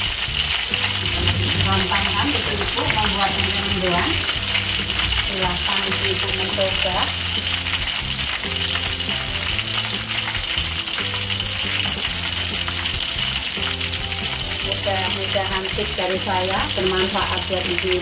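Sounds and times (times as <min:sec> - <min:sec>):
food deep-frying in hot oil: 0:00.0 - 0:18.0.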